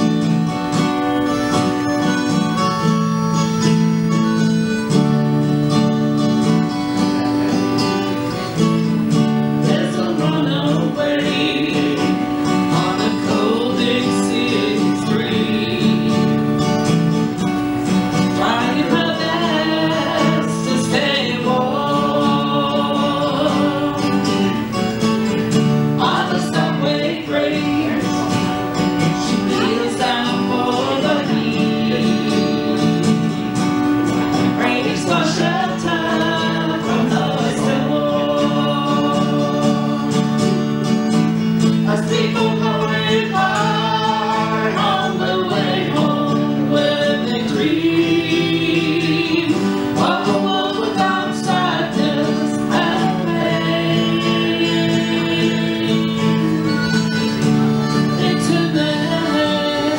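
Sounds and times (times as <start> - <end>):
acoustic guitar: 0.0 - 59.9
person singing: 0.0 - 59.9.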